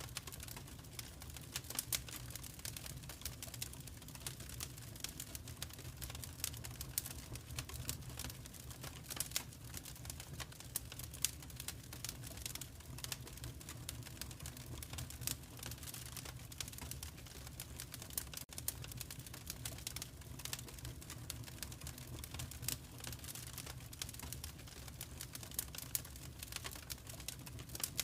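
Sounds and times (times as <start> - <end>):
fire crackling and popping: 0.0 - 28.0
low rumble of fire: 0.0 - 28.0.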